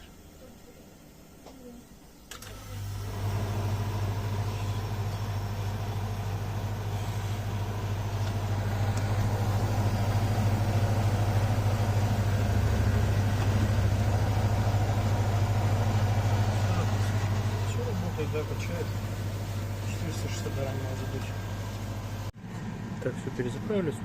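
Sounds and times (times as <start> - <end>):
refrigeration compressor humming: 0.0 - 24.0.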